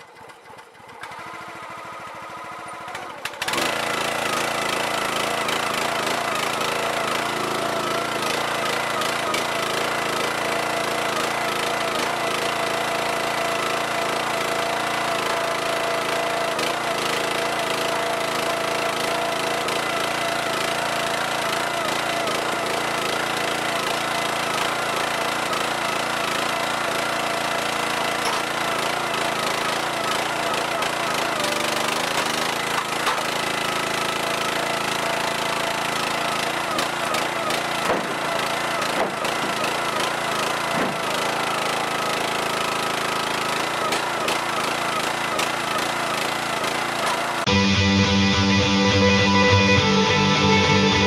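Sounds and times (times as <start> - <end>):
log splitter engine running: 0.0 - 51.0.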